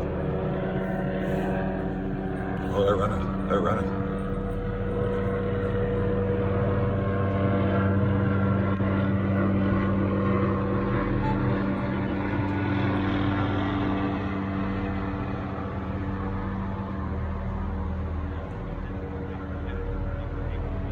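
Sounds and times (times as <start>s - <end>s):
helicopter engine and rotor drone: 0.0s - 20.9s.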